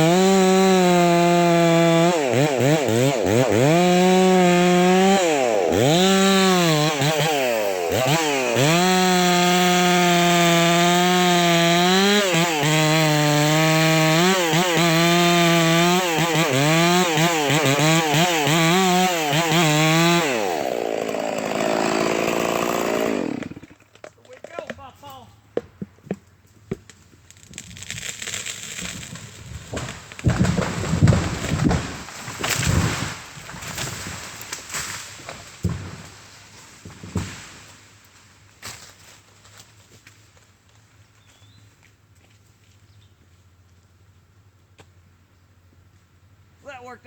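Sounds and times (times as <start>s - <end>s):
chainsaw cutting: 0.0s - 25.2s, 26.7s - 39.2s.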